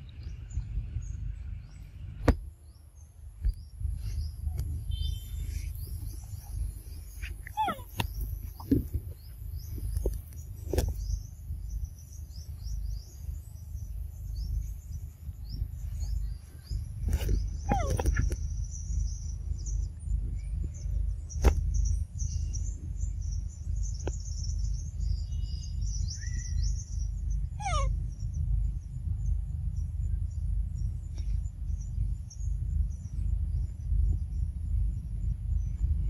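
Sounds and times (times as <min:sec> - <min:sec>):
birds chirping: 0:00.0 - 0:36.0
steady low rumble: 0:00.0 - 0:36.0.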